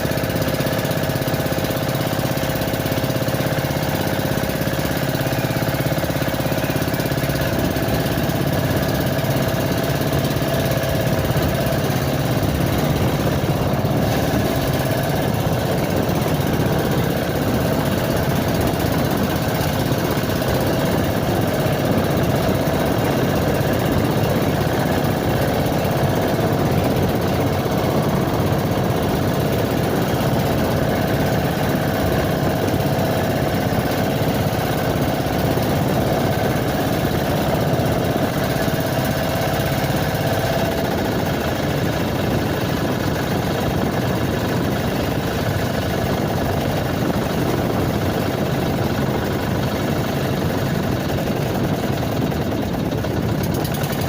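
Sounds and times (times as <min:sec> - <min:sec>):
small boat engine running: 0:00.0 - 0:54.0.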